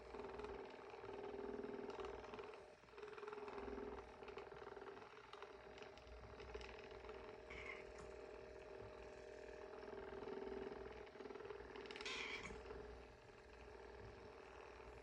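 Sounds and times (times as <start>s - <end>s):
massage gun buzzing: 0.0s - 15.0s.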